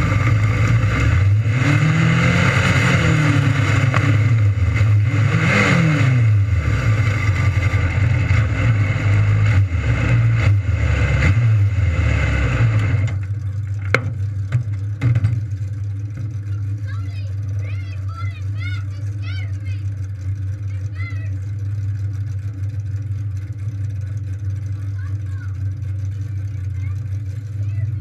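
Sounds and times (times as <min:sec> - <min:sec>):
race car engines at high revs: 0:00.0 - 0:28.0.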